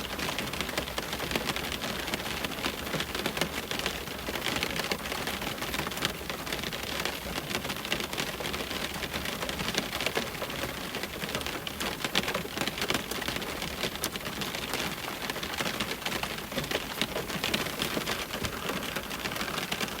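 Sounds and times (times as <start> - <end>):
rain on window glass: 0.0 - 20.0.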